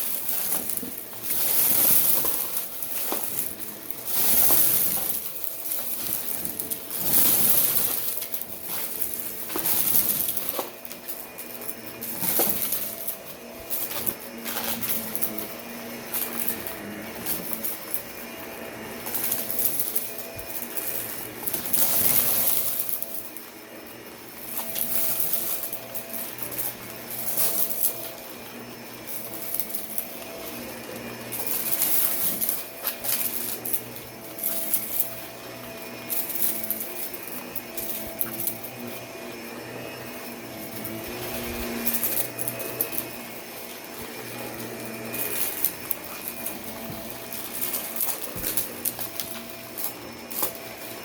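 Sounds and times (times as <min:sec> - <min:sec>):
debris clicking in vacuum: 0:00.0 - 0:51.0
vacuum cleaner on carpet: 0:00.0 - 0:51.0.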